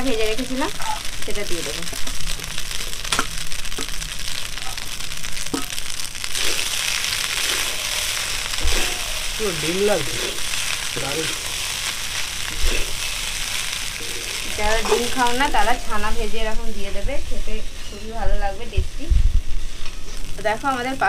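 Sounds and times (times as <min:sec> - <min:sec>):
pasta sizzling in a pan: 0:00.0 - 0:21.0.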